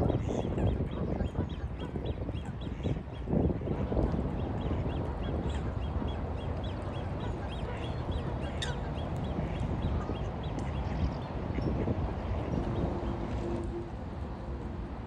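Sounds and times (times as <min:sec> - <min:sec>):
water birds calling: 0:00.0 - 0:13.9.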